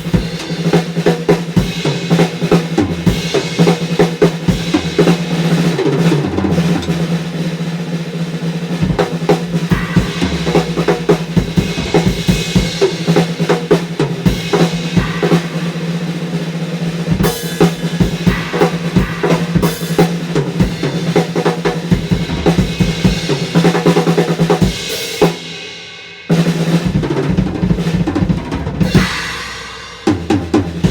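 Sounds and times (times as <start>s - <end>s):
drum kit playing: 0.0s - 30.9s.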